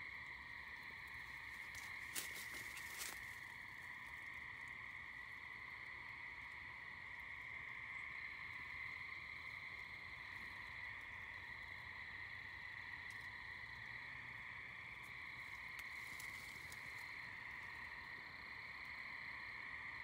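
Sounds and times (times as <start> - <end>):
faint ticks: 0.0 - 11.9, 12.5 - 13.9, 14.9 - 19.6
night chorus of calling animals: 0.0 - 20.0.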